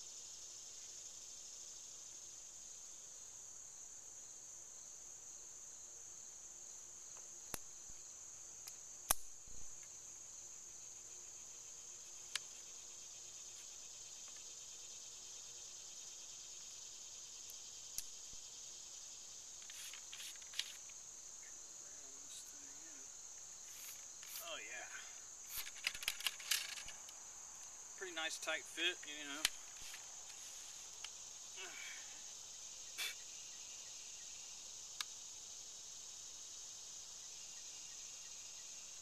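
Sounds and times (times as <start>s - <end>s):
insects chorus: 0.0s - 39.0s.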